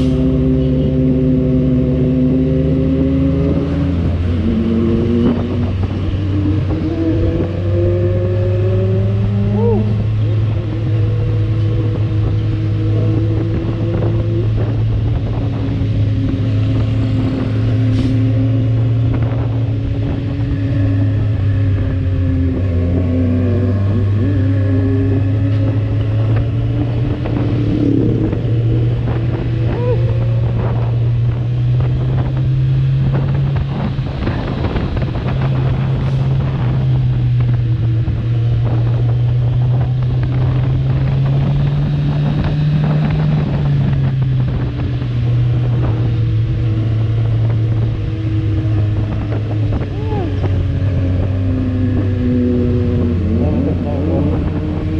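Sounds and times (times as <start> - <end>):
motorcycle engine cruising: 0.0 - 54.9
wind rushing over microphone: 0.0 - 54.9.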